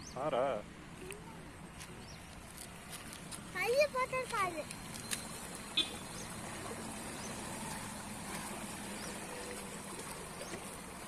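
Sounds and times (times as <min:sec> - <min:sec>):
shallow stream flowing: 0:00.0 - 0:11.0.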